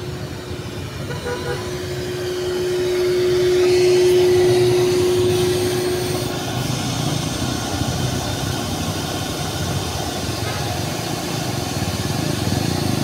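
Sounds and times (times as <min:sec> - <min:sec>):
vacuum cleaner hum: 0:00.0 - 0:13.0
vacuum cleaner suction: 0:00.1 - 0:13.0.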